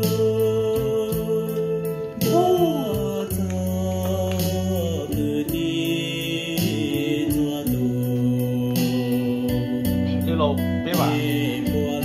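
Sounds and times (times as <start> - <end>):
chant-like singing with beat: 0.0 - 10.3, 11.0 - 12.0.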